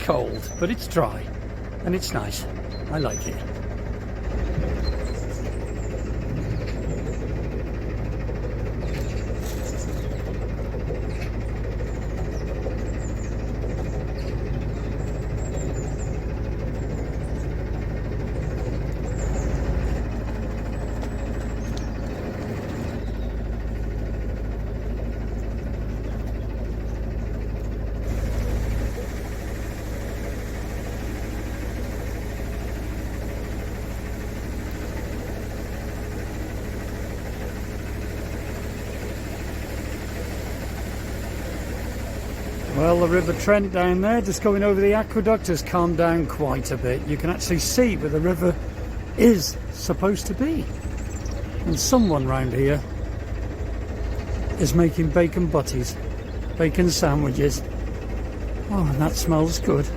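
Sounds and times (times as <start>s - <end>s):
boat diesel engine running: 0.0s - 59.9s.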